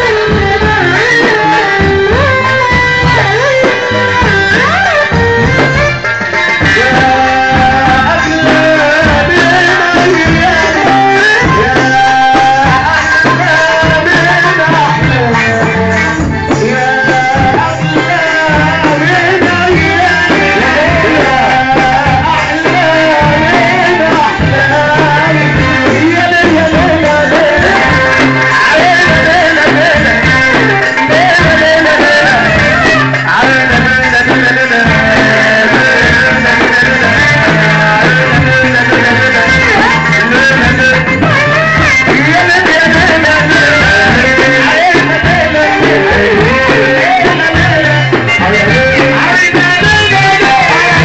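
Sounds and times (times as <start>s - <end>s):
electronic keyboard melody: 0.0s - 51.0s
man singing through microphone: 0.0s - 51.0s
steady drum beat: 0.0s - 51.0s.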